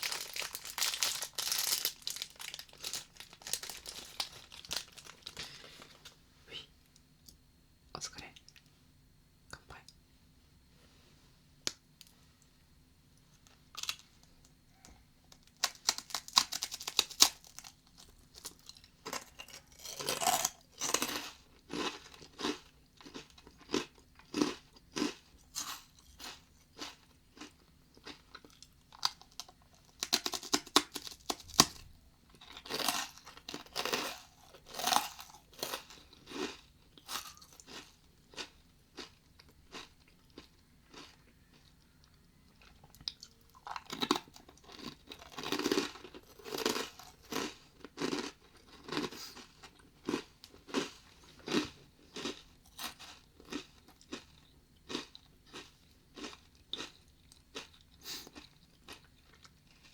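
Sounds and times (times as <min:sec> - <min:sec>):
person chewing crunchy rice crackers: 0:00.0 - 0:06.2, 0:13.2 - 0:59.9.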